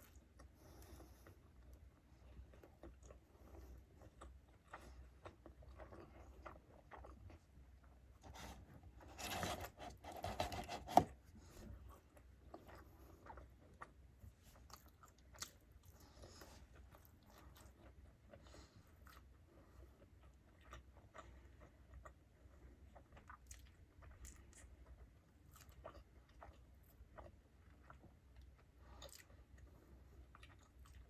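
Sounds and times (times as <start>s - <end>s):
chewing and biting food: 0.0s - 31.0s.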